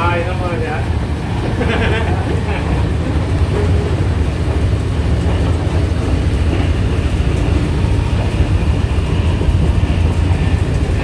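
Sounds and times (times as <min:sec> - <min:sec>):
train rumbling along the line: 0:00.0 - 0:11.0.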